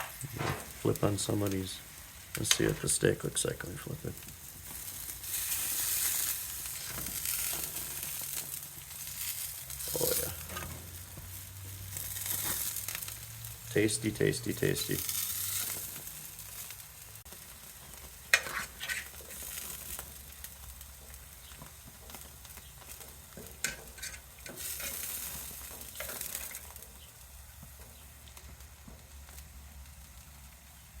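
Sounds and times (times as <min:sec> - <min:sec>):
meat sizzling on a grill: 0:00.0 - 0:31.0.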